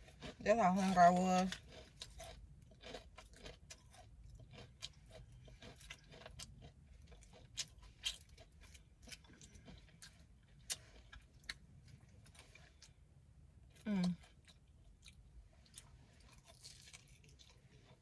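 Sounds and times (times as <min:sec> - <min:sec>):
chewing crispy fried chicken: 0:00.0 - 0:18.0.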